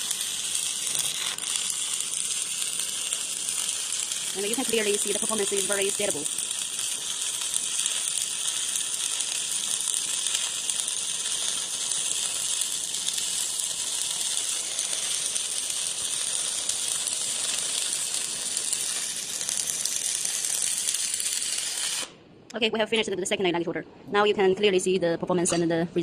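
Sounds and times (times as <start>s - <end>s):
welding arc crackling hiss: 0.0s - 22.2s.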